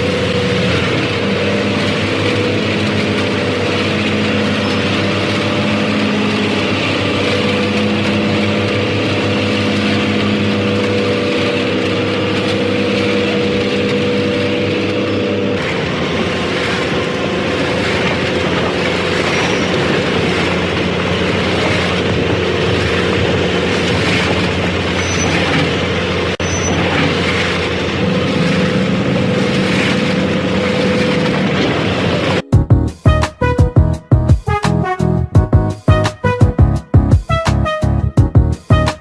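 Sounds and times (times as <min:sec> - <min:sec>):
harvester engine drone: 0:00.0 - 0:39.0
machinery clattering and rattling: 0:00.0 - 0:39.0.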